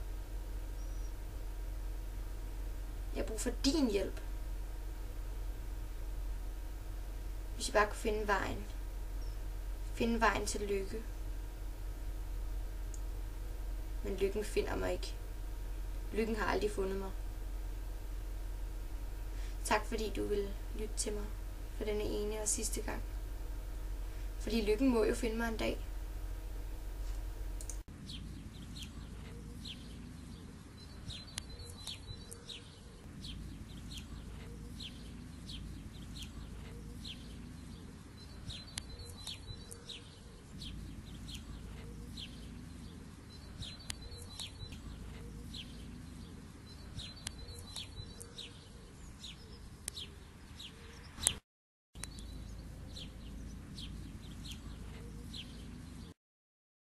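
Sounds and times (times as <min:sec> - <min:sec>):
low steady rumble: 0:00.0 - 0:32.2, 0:33.0 - 0:39.6, 0:40.4 - 0:48.3, 0:52.0 - 0:56.2
birds chirping: 0:00.0 - 0:51.4, 0:52.0 - 0:56.2.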